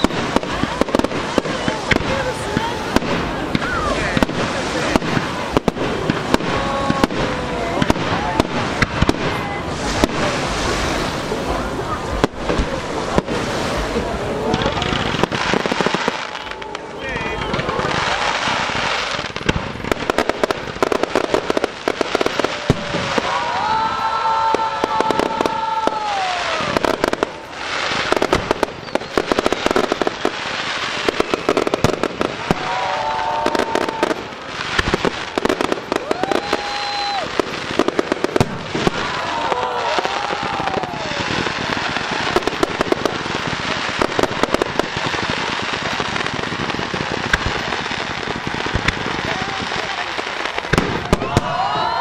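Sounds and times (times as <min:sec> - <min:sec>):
firework whistles: 0:00.0 - 0:13.9, 0:15.0 - 0:52.0
fireworks banging and crackling: 0:00.0 - 0:52.0.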